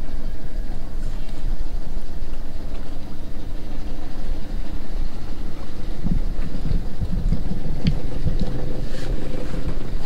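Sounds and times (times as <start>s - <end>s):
boat engine running: 0.0s - 10.0s
wind buffeting microphone: 0.0s - 10.0s.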